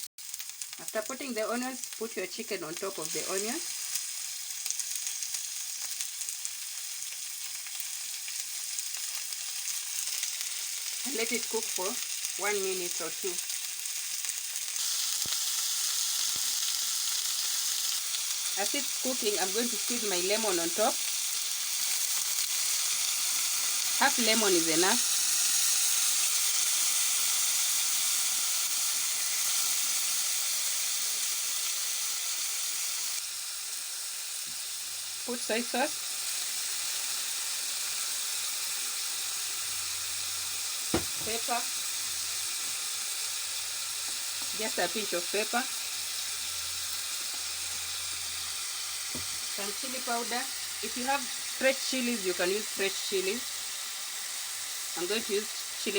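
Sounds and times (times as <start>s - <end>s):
food sizzling in a pan: 0.0s - 55.9s.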